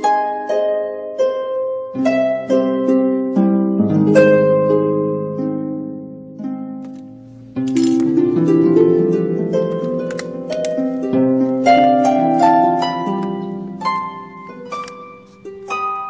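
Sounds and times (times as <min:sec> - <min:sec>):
plucked notes music: 0:00.0 - 0:16.0.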